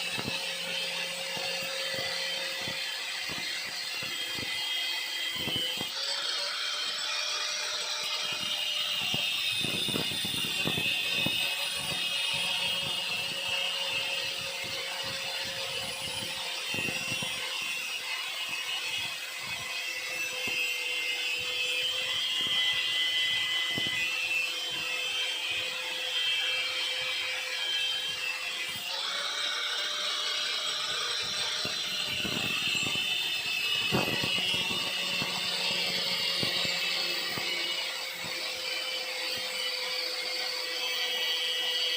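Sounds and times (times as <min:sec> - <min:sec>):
angle grinder grinding metal: 0:00.0 - 0:41.9.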